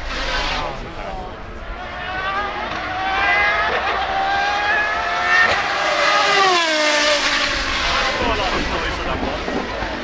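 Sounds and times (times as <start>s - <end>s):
race car engine passing at high revs: 0.0s - 10.0s.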